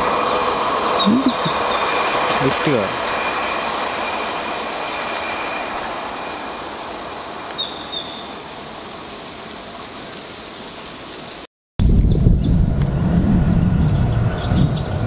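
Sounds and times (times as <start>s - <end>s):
passenger train rumbling: 0.0s - 10.0s, 11.8s - 15.0s.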